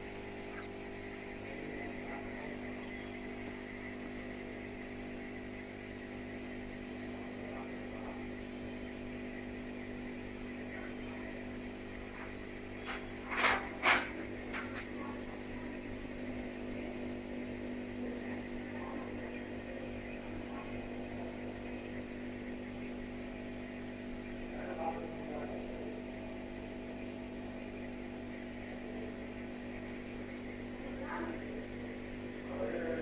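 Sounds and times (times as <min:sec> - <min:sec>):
steady electrical hum: 0:00.0 - 0:33.0.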